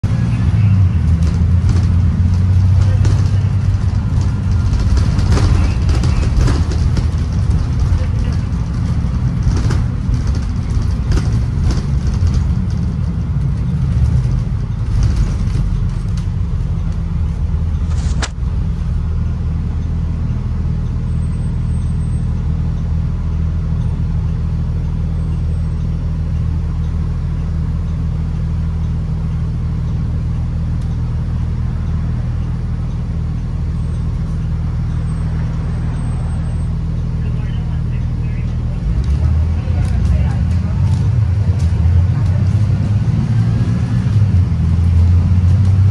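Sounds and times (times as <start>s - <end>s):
bus body rattling: 0.0s - 45.9s
bus engine drone: 0.0s - 45.9s.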